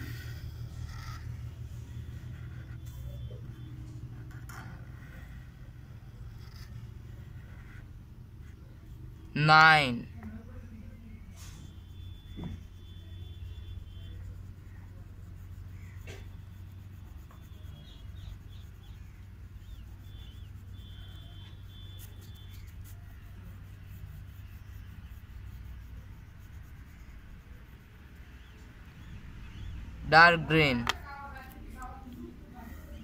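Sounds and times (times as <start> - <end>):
crayon scratching on paper: 0.0 - 9.9, 11.2 - 33.0
steady low hum: 0.0 - 33.0.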